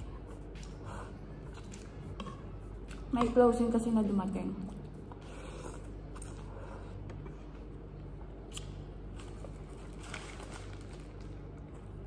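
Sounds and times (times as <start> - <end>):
chewing noodles: 0.0 - 3.2, 4.7 - 12.0
steady low hum: 0.0 - 12.0.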